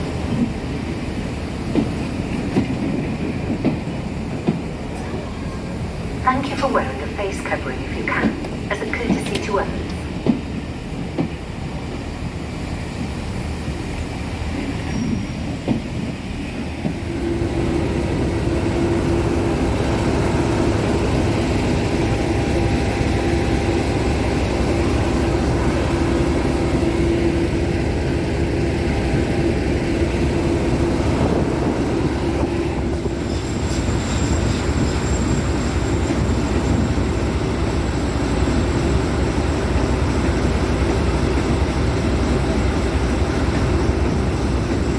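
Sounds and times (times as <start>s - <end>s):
diesel locomotive engines droning: 0.0s - 44.9s.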